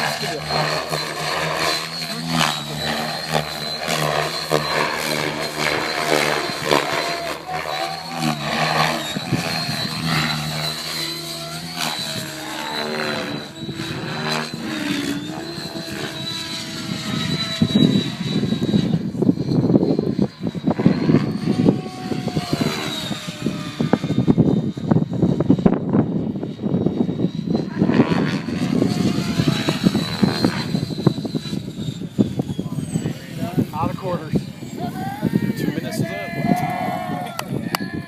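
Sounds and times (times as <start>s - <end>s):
rc helicopter motor whine: 0.0s - 38.0s
rotor blades beating: 0.0s - 38.0s.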